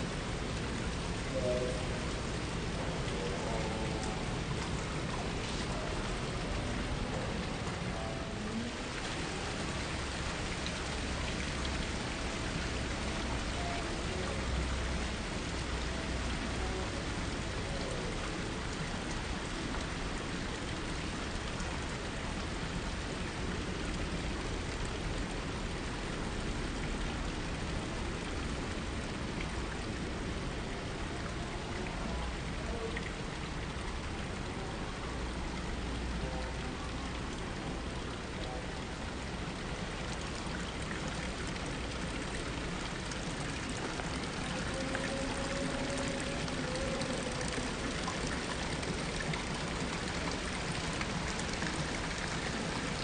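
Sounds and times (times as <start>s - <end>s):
fountain water splashing: 0.0s - 53.0s.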